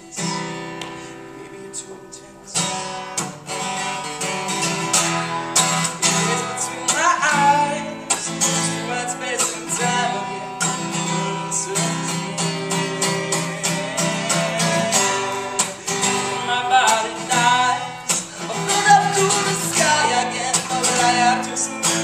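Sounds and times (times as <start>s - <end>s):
man singing: 0.0s - 2.8s, 5.9s - 22.0s
acoustic guitar strumming: 0.0s - 22.0s.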